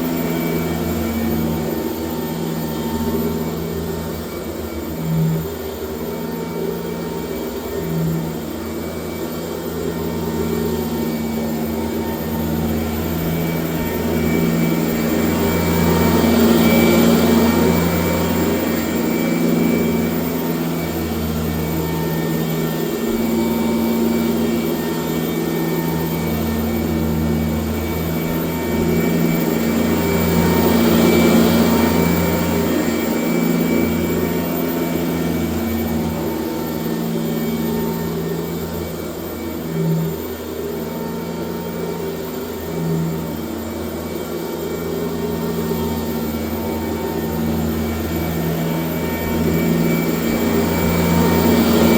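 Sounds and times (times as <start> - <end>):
vacuum cleaner motor whining: 0.0 - 51.9.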